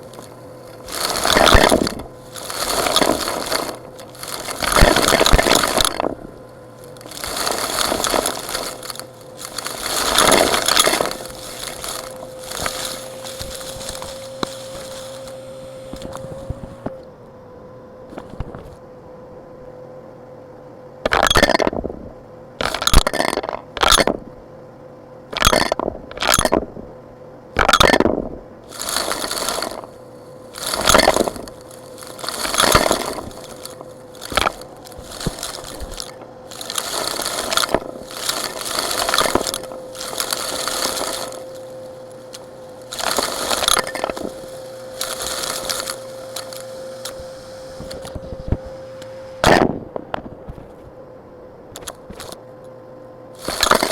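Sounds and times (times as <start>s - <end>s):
tool scraping rocks: 0.0s - 17.0s, 21.1s - 22.0s, 22.6s - 24.3s, 25.4s - 26.7s, 27.6s - 49.8s, 51.8s - 52.4s, 53.4s - 53.9s
faint hum: 0.0s - 53.9s.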